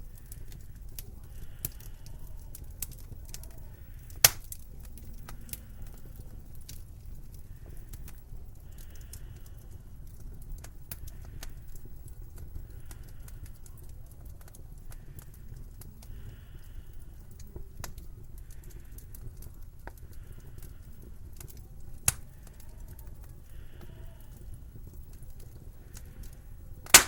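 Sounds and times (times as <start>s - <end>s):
fire hissing softly: 0.0s - 27.0s
wood fire crackling: 0.0s - 27.0s.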